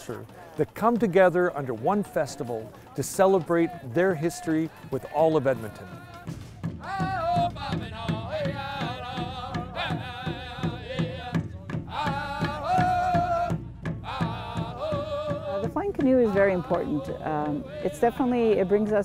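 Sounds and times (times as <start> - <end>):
large hide drum beating: 0.2 - 19.0
group singing wavering notes: 3.5 - 19.0.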